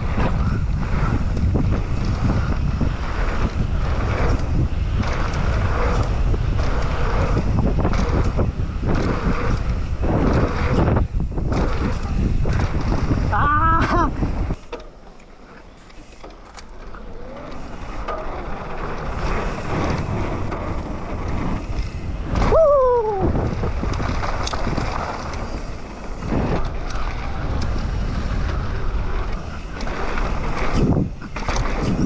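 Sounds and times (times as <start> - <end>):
wind on microphone: 0.0 - 14.6, 16.9 - 32.0
bike tyres rumbling on dirt: 0.0 - 32.0.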